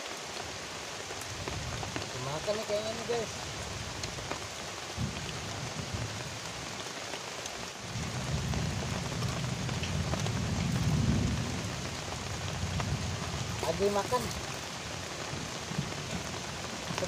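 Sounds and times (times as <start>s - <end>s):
heavy rain on river: 0.0s - 17.0s.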